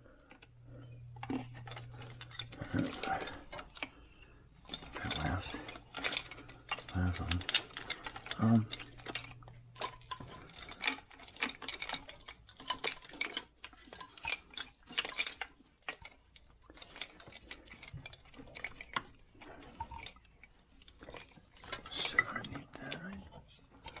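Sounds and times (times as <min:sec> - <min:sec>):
small parts and tools clinking: 0:00.1 - 0:24.0.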